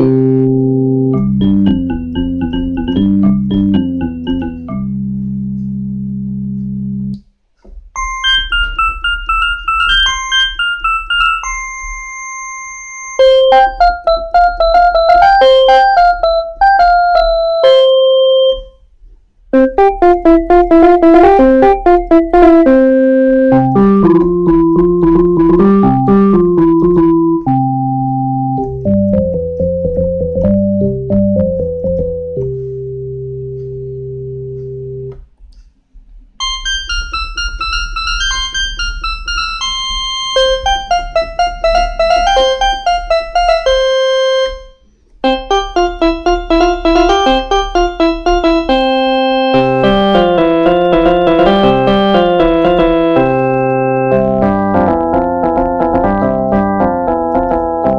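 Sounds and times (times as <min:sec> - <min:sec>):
electronic keyboard melody: 0:00.0 - 0:07.2, 0:08.0 - 0:18.9, 0:19.5 - 0:35.2, 0:36.4 - 0:57.9.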